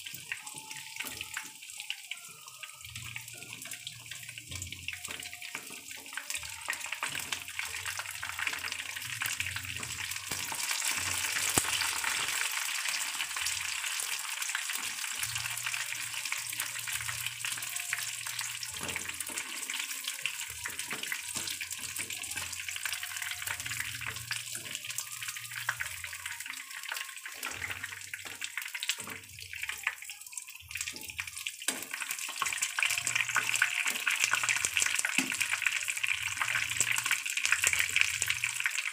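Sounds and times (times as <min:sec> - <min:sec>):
chicken frying in hot oil: 0:00.0 - 0:38.9.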